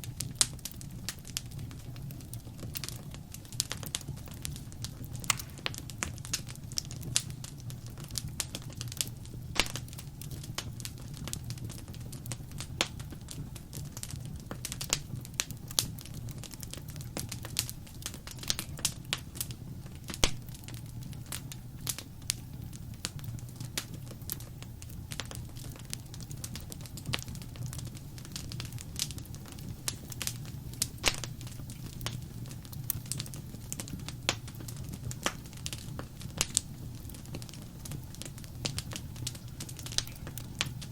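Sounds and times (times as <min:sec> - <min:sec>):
low rumble of burning: 0:00.0 - 0:40.9
wood fire crackling and popping: 0:00.0 - 0:40.9.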